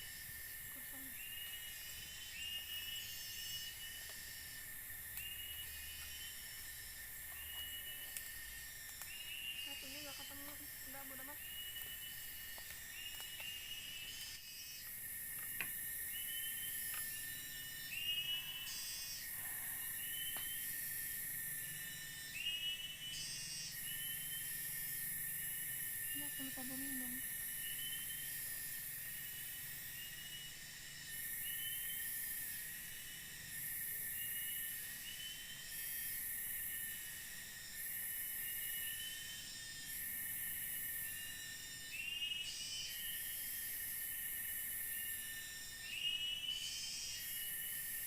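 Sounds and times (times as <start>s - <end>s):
insect high trill: 0.0s - 48.0s
shrill insect buzz: 0.0s - 48.0s.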